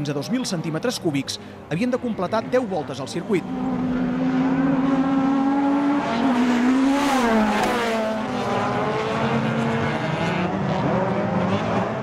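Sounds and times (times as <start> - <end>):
car engines revving hard: 2.2 - 12.0.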